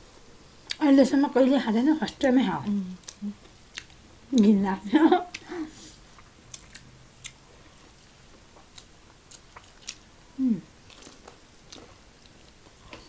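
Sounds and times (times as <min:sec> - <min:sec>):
close-mic chewing: 0:00.6 - 0:00.9, 0:02.1 - 0:13.0.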